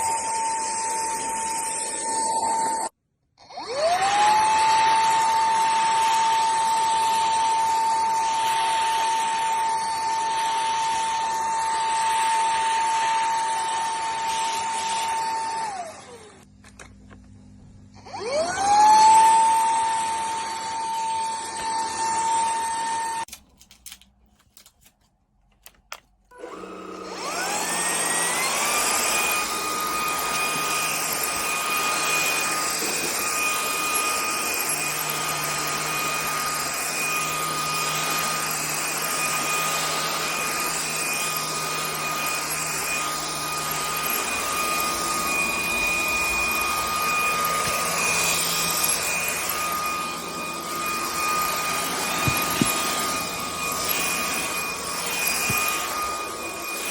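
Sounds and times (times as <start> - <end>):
vacuum cleaner motor whine: 0.0 - 23.3, 26.3 - 56.9.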